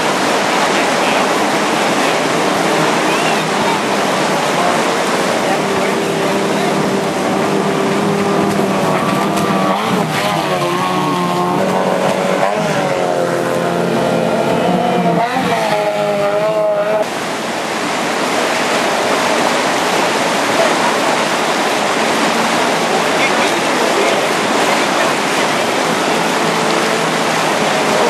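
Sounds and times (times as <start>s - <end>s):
outboard motor revving: 0.0s - 28.0s
white water rushing: 0.0s - 28.0s.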